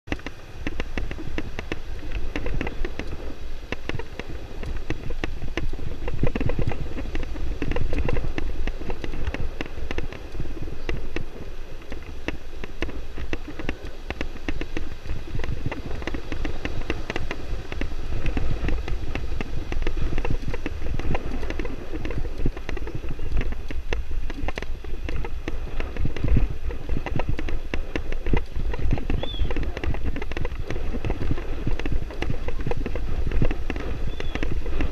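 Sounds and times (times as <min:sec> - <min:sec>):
wind buffeting microphone: 0:00.0 - 0:34.9
bicycle frame rattling: 0:00.1 - 0:34.9
bicycle tyre rumble on dirt: 0:00.1 - 0:34.9.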